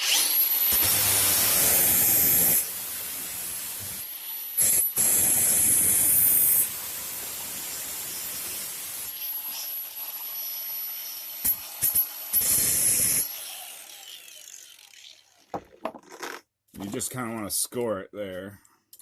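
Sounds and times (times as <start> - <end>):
angle grinder cutting steel: 0.0 - 15.5.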